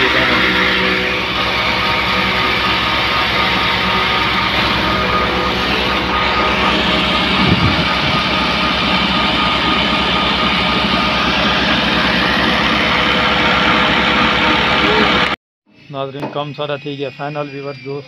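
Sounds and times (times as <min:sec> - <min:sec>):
hammer mill grinding grain: 0:00.0 - 0:15.4
tractor engine running: 0:00.0 - 0:15.4.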